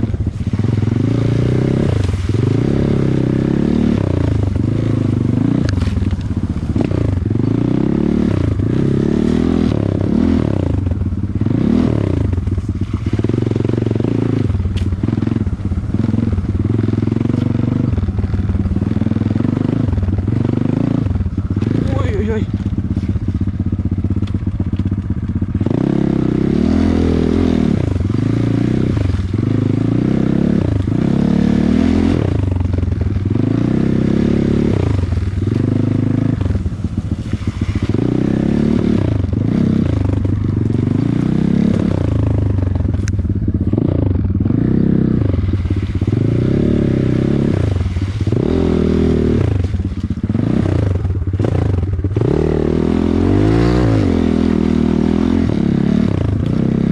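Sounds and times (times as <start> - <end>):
motorcycle engine revving: 0.0 - 56.9
motorcycle rattling: 0.0 - 56.9.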